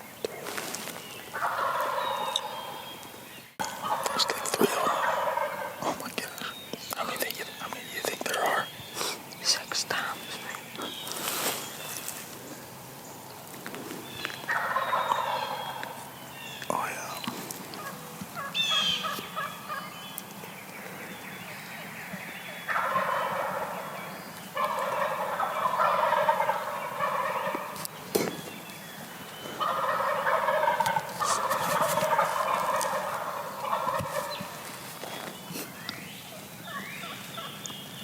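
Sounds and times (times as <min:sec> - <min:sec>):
turkeys gobbling: 0:00.0 - 0:16.8, 0:17.4 - 0:21.2, 0:21.8 - 0:37.8.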